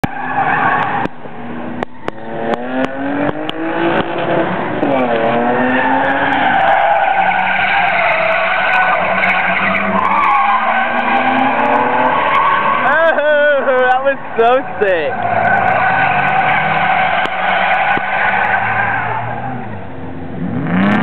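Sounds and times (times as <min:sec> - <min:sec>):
tire squeal: 0:00.0 - 0:02.6, 0:04.5 - 0:19.8
car engine revving: 0:00.0 - 0:21.0.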